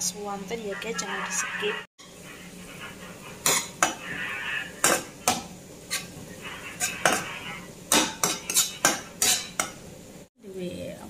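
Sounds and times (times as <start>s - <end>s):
metal spatula scraping a wok: 0.7s - 9.8s.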